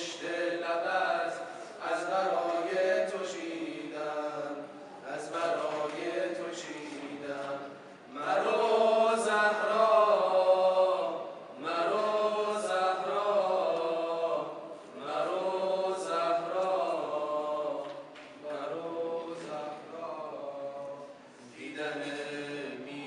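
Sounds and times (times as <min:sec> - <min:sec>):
men chanting unaccompanied: 0:00.0 - 0:23.0.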